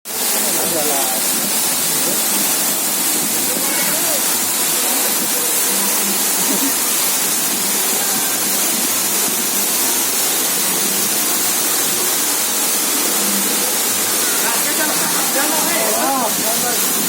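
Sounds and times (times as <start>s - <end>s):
waterfall roaring: 0.1s - 17.0s.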